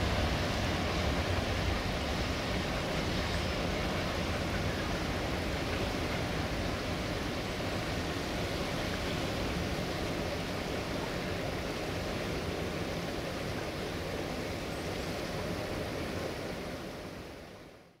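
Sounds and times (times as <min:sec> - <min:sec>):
fast-flowing river rushing: 0:00.0 - 0:17.7.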